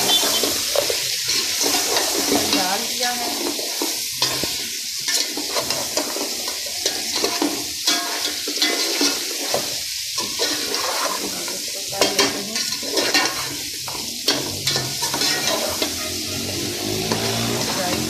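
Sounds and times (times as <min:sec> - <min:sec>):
chicken sizzling in oil: 0:00.0 - 0:18.0
metal spoon scraping a pot: 0:03.3 - 0:18.0.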